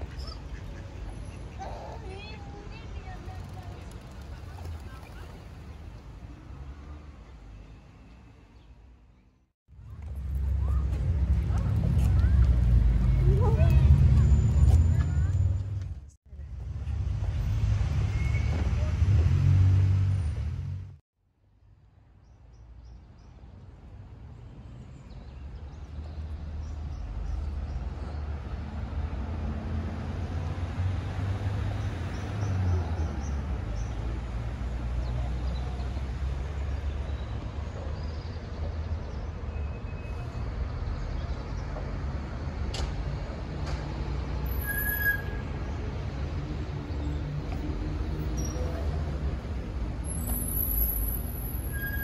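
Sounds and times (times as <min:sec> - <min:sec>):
distant traffic rumble: 0:00.0 - 0:21.0, 0:22.0 - 0:52.0.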